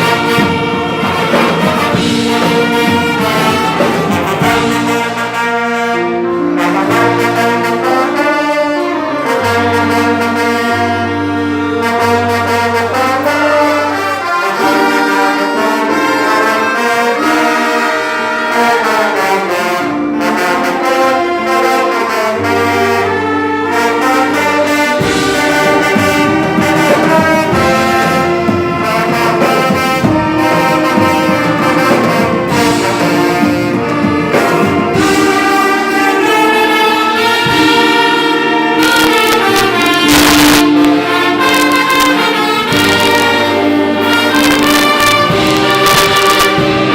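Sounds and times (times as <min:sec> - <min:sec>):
brass wind orchestra playing: 0:00.0 - 0:46.9.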